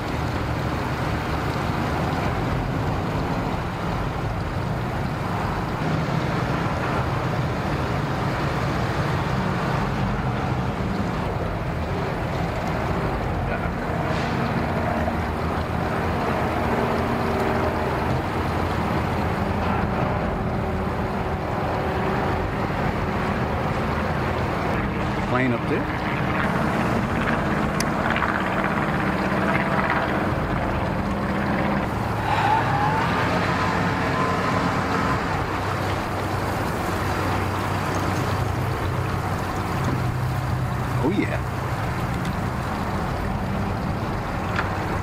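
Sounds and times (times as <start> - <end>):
engines humming steadily: 0.0 - 45.0.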